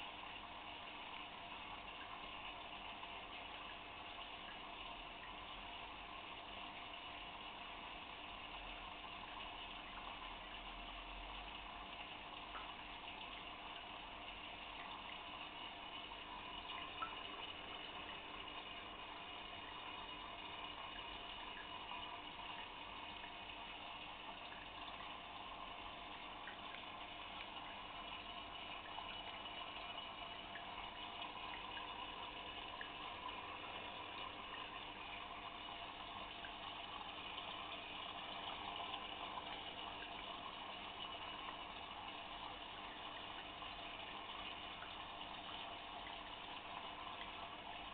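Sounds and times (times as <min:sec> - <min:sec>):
fish tank filter trickling water: 0:00.0 - 0:47.9.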